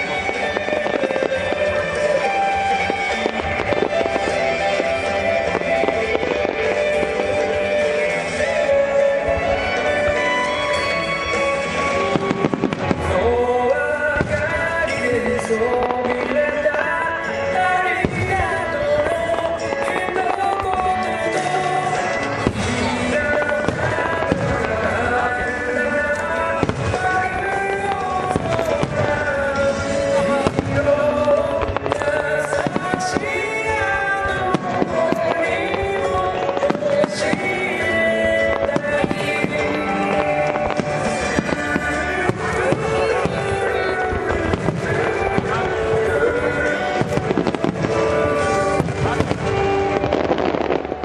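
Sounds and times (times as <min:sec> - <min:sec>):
fireworks bangs: 0:00.0 - 0:51.0
music with sustained notes: 0:00.0 - 0:51.0.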